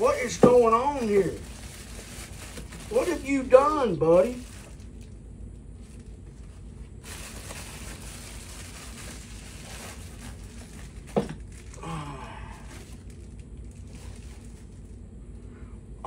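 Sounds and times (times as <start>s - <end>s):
plastic and paper crinkling: 0.0s - 15.0s.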